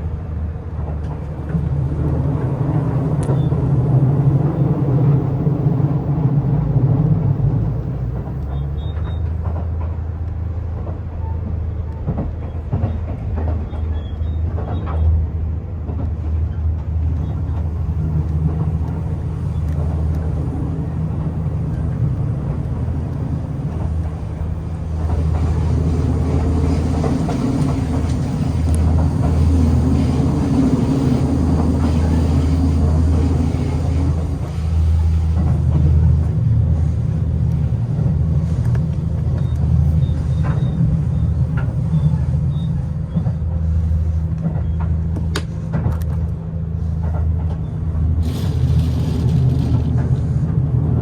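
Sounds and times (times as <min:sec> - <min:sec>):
train cabin low drone: 0:00.0 - 0:51.0.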